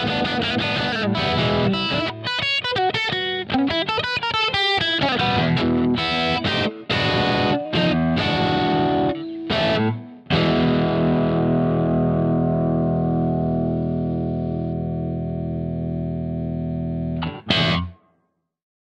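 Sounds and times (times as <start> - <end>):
electric guitar playing: 0.0 - 18.1.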